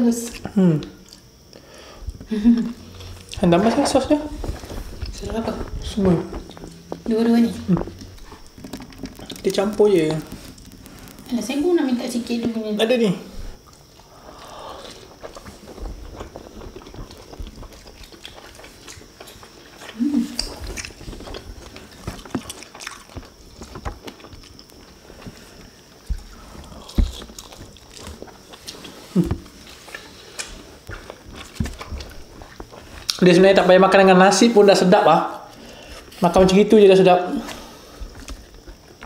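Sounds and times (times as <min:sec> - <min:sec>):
people chewing and biting food: 0:00.3 - 0:11.4, 0:13.4 - 0:34.0, 0:37.4 - 0:39.0.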